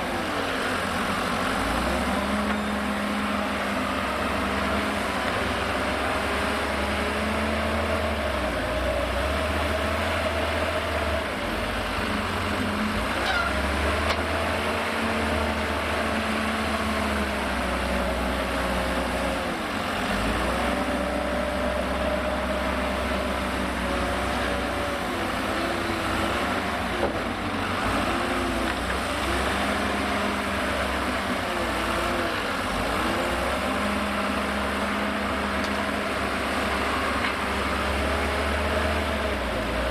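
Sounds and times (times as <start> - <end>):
diesel loader engine working: 0.0 - 39.9.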